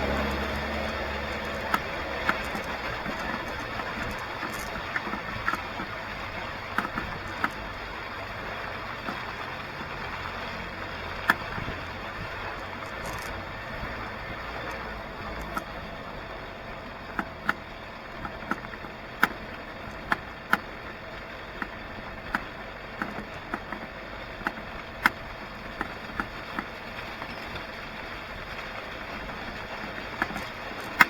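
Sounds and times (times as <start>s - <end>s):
sharp clicks and knocks: 0.0s - 31.0s
vehicle engine running: 0.0s - 31.0s.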